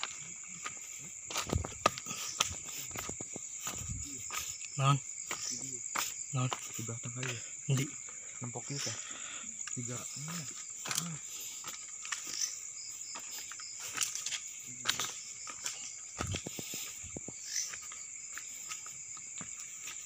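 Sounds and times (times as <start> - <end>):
footsteps: 0.0 - 8.0, 9.7 - 20.0
crickets and insects chirping: 0.0 - 20.0.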